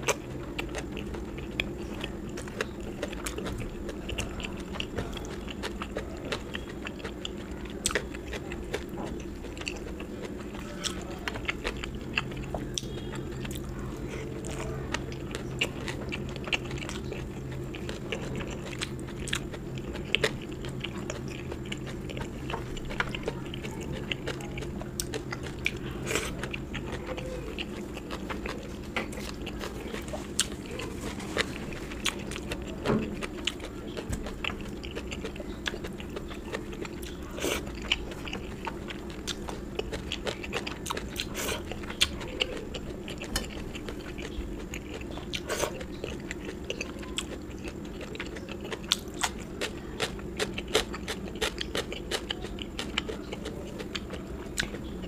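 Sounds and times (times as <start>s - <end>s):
person chewing and biting food: 0.0s - 55.0s.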